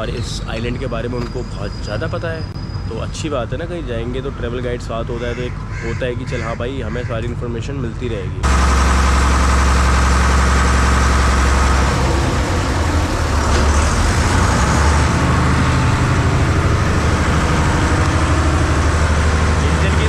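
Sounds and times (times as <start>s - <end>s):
ferry engine humming: 0.0s - 20.0s.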